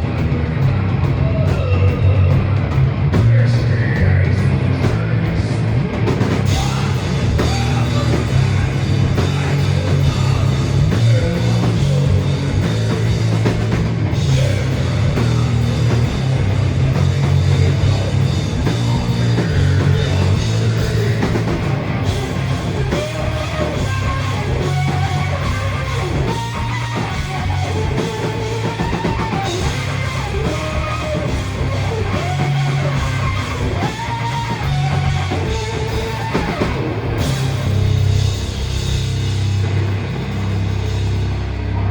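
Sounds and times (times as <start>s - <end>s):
bass guitar: 0.0s - 41.9s
distorted electric guitars: 0.0s - 41.9s
drum kit: 0.0s - 41.9s.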